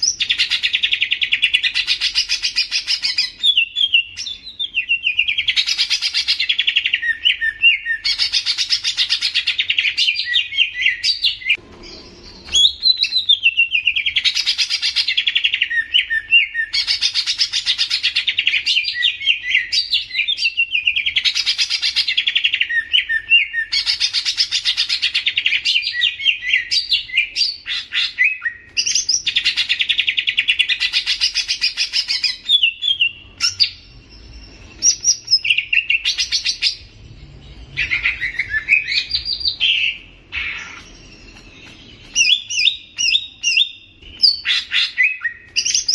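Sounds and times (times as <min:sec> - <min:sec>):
bird singing chattering song: 0:00.0 - 0:45.9.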